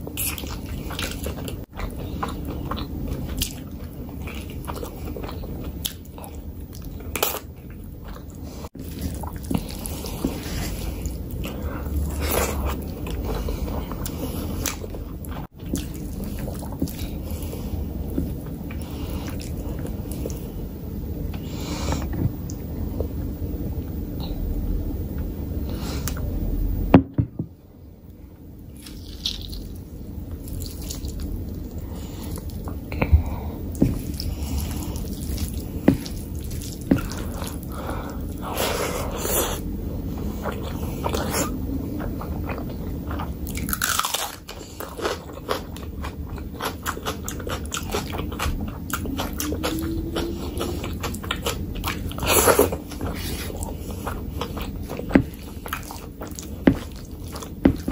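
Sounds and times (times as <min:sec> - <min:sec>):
chewing and mouth sounds: 0:00.0 - 0:20.6, 0:28.7 - 0:57.9.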